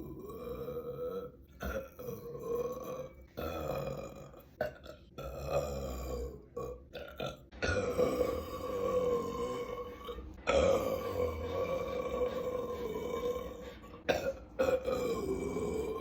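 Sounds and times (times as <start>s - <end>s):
woman belching: 0.1s - 16.0s.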